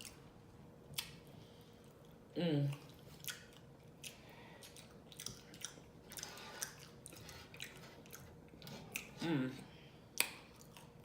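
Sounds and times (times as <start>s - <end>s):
person chewing with smacking mouth: 0.0s - 9.5s, 10.1s - 11.0s.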